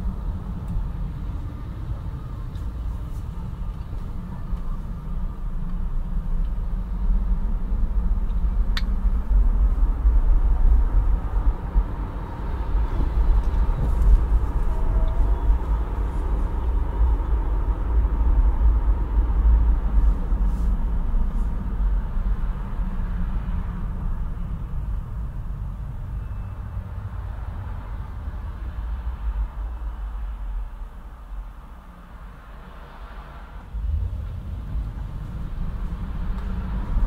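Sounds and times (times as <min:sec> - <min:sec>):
car road and engine rumble: 0:00.0 - 0:37.0.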